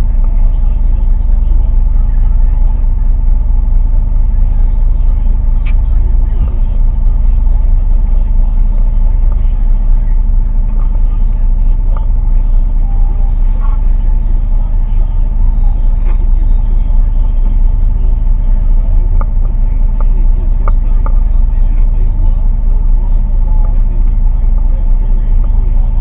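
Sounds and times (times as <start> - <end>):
engine droning: 0.0 - 26.0.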